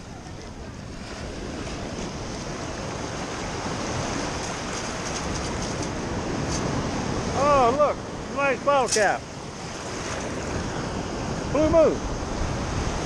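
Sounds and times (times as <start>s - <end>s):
surf washing over sand: 0.0s - 13.0s.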